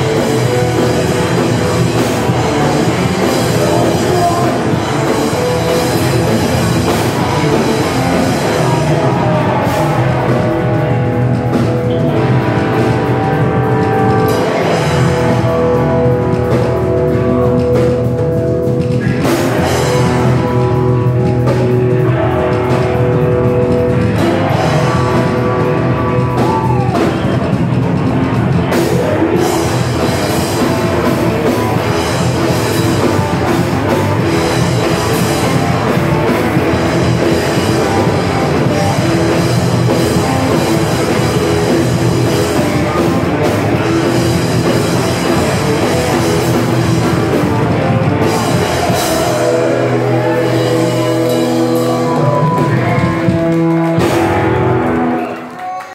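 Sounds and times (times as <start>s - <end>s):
bass and drums: 0.0s - 55.9s
electric guitar chords: 0.0s - 55.9s.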